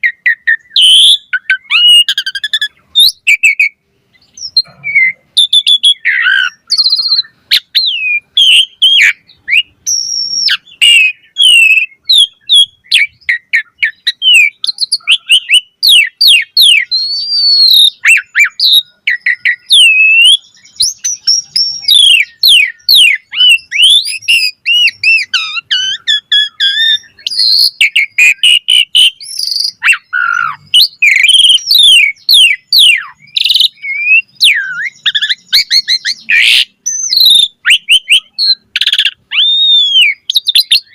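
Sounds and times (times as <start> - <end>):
starling singing whistles and chirps: 0.0 - 40.9.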